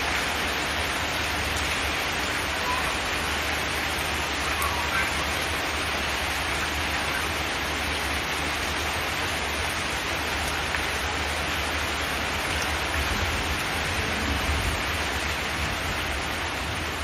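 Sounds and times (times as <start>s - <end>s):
rain on a metal roof: 0.0s - 17.0s.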